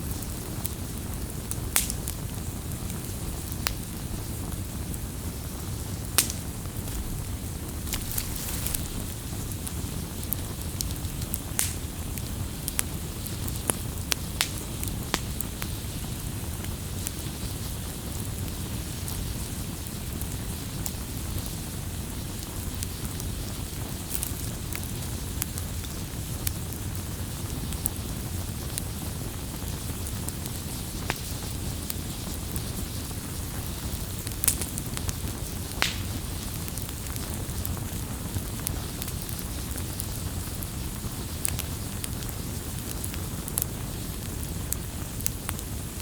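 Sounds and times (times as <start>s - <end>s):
fire crackling and popping: 0.0s - 46.0s
fire flames rushing: 0.0s - 46.0s.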